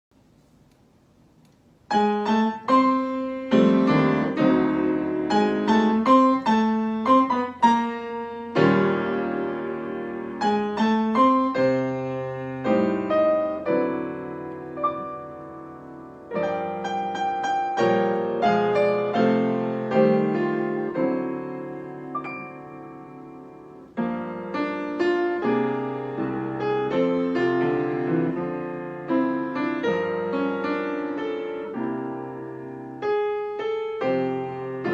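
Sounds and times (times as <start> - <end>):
solo piano piece: 1.8 - 34.9.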